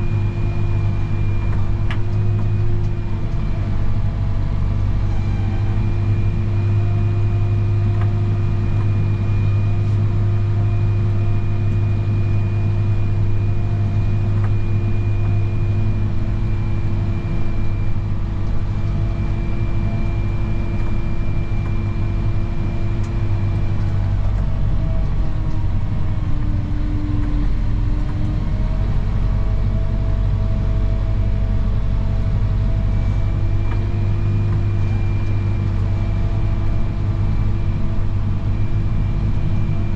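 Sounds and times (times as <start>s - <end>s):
snow plow engine droning: 0.0s - 39.9s.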